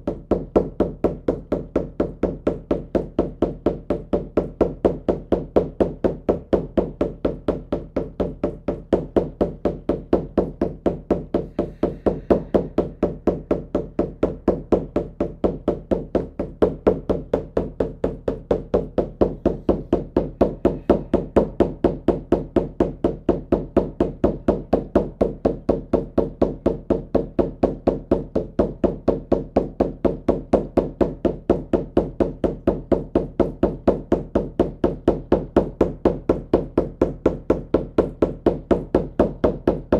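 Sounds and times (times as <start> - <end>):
frame drum beating steadily: 0.0 - 39.9.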